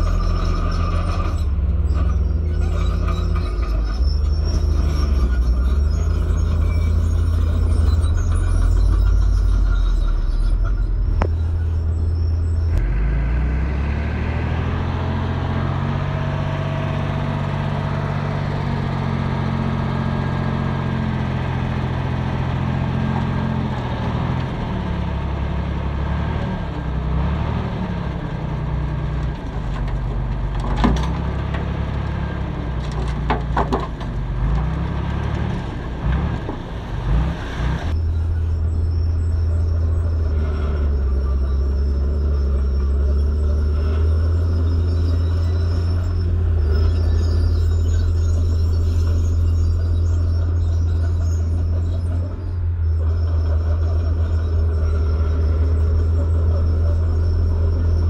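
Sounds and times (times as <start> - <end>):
bulldozer diesel engine: 0.0 - 58.0
dump truck engine revving: 0.0 - 58.0.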